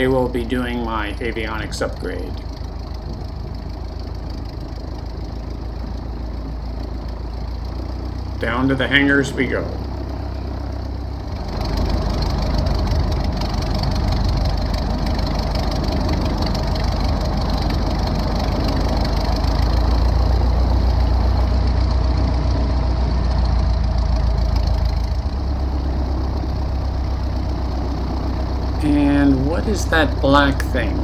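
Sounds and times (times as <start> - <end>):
light aircraft engine and propeller: 0.0 - 31.0.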